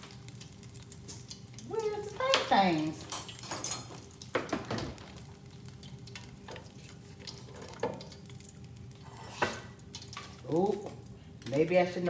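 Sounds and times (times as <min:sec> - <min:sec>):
shrimp sizzling in deep fryer: 0:00.0 - 0:12.0.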